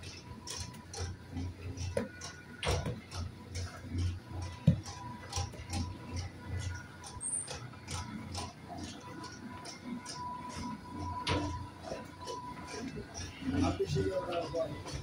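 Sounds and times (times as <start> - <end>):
pulsing machine hum: 0.0 - 15.0.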